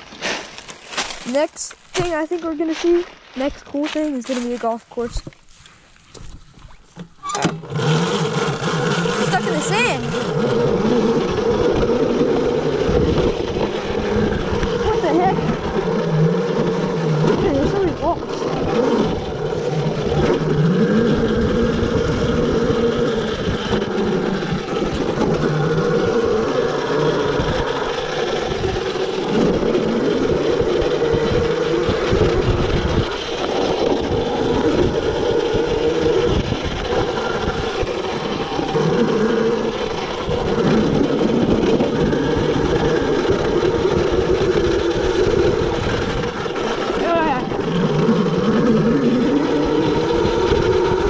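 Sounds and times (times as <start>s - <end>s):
electric motor whining: 0.0s - 51.0s
rough low rumble: 9.1s - 51.0s.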